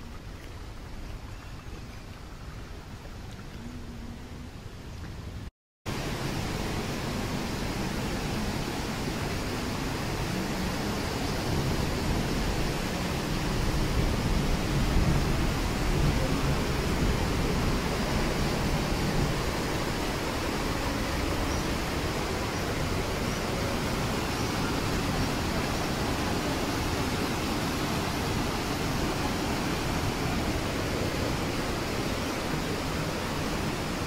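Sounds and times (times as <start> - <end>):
mountain stream rushing: 0.0 - 34.0.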